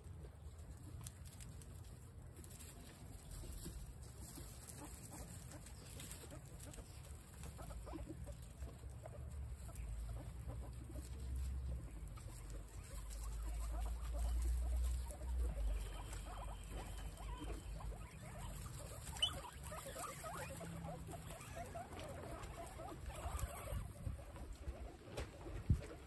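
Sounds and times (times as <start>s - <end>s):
guinea pigs munching grass: 0.0s - 26.0s.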